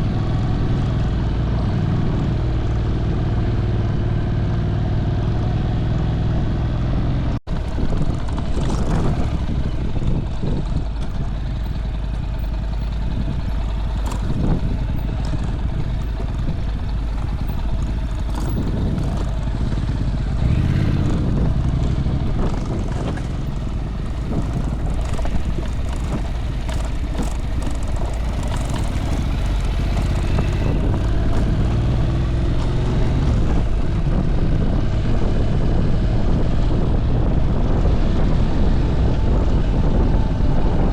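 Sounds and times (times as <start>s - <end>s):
motorbike engine: 0.0s - 40.9s
road noise: 0.0s - 40.9s.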